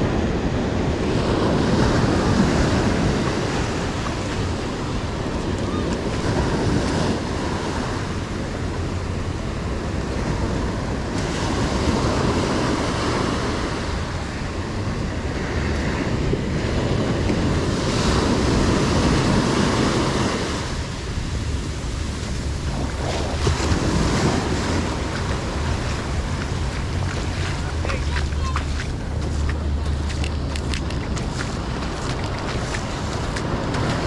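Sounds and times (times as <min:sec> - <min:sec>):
surf washing onto sandy beach: 0:00.0 - 0:34.0.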